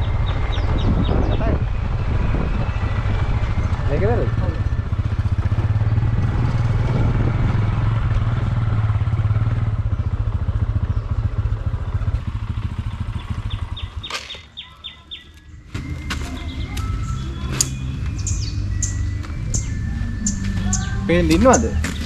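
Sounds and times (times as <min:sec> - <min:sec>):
birds chirping: 0:00.0 - 0:22.0
motorcycle engine running: 0:00.0 - 0:22.0.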